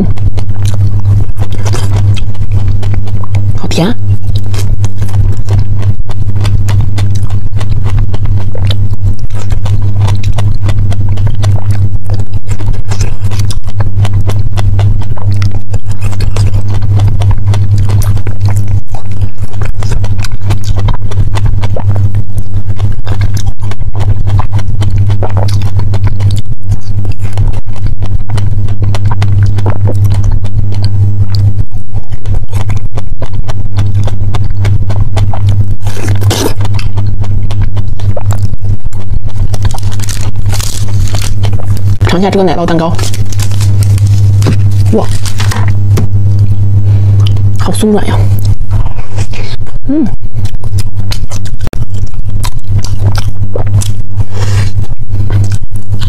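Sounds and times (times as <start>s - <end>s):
chewing strawberries: 0.0s - 56.0s
loud low hum: 0.0s - 56.0s.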